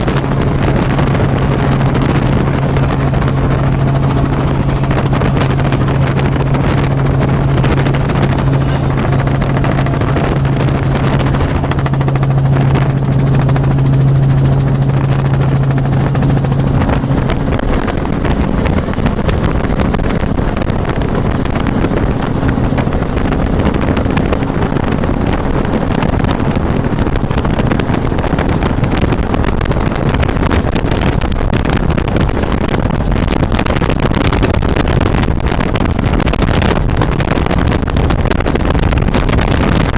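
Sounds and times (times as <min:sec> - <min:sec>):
helicopter engine and rotor noise: 0:00.0 - 0:39.9
strong low hum: 0:00.0 - 0:39.9
wind buffeting microphone: 0:00.0 - 0:39.9.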